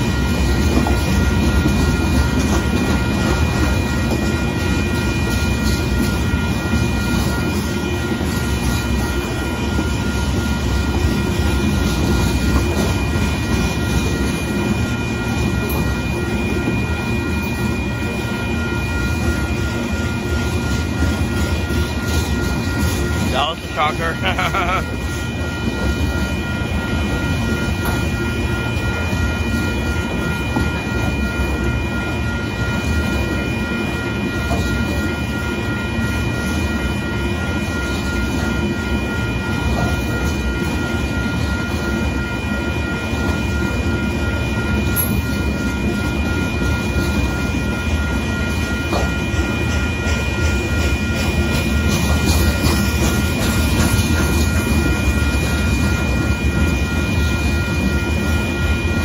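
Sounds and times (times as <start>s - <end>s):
freight train rumbling past: 0.0s - 59.0s
railroad crossing bell ringing: 0.0s - 59.0s.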